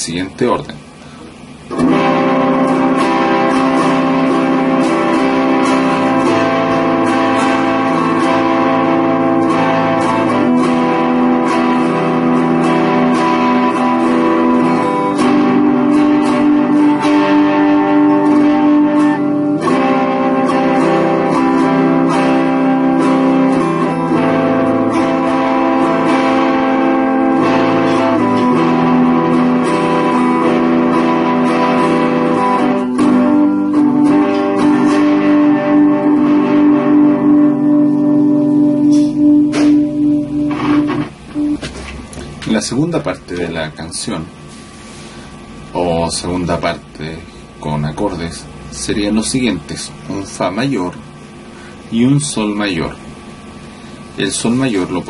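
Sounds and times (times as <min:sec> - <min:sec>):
guitar playing chords: 0:00.0 - 0:55.0.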